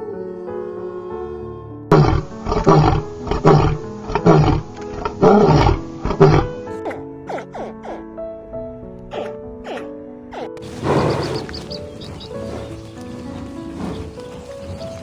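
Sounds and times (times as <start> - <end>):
calm background music: 0.0 - 15.0
big cat roaring: 1.9 - 8.1, 9.1 - 15.0.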